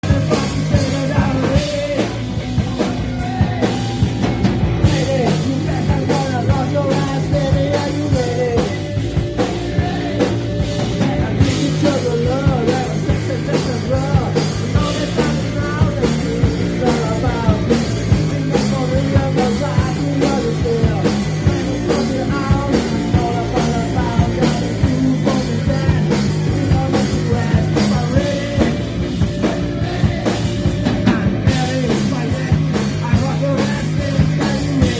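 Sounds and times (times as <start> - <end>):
live punk rock band: 0.0 - 34.9
shouted lead vocal: 0.0 - 34.9.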